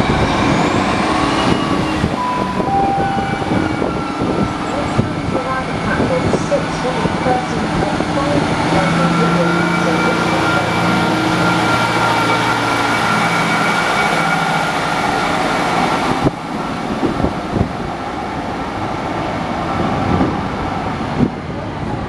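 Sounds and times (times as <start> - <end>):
train knocks: 0.0 - 17.9
diesel train engine whine: 0.0 - 22.0
train rumble: 0.0 - 22.0.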